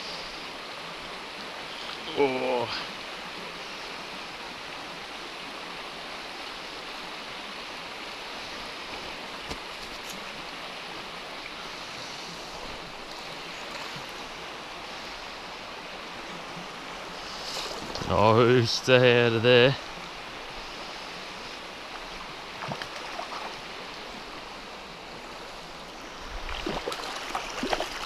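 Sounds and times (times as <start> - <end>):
river water flowing: 0.0 - 28.0.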